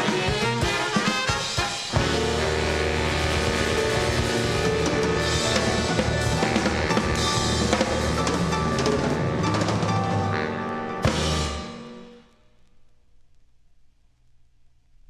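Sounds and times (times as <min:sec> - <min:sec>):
big band jazz from vinyl: 0:00.0 - 0:12.4
drum kit: 0:00.0 - 0:12.4.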